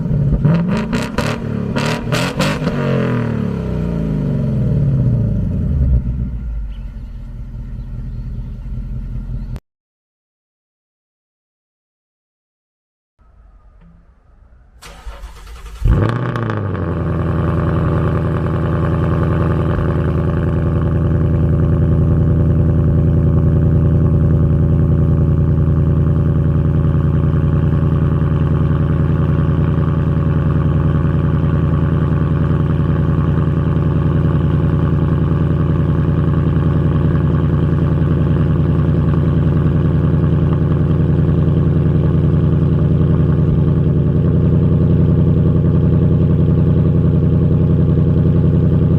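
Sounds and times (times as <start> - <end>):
car engine starting and idling: 0.0 - 9.6, 13.2 - 48.9.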